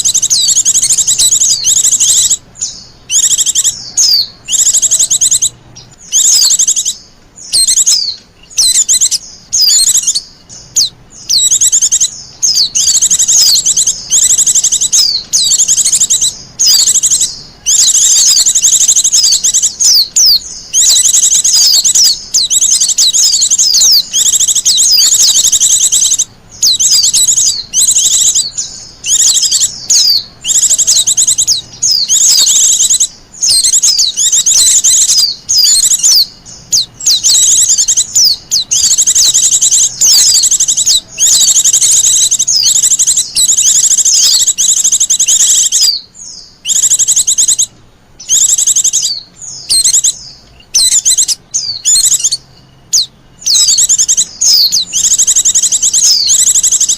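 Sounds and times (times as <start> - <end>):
bird twittering song: 0.0 - 56.9.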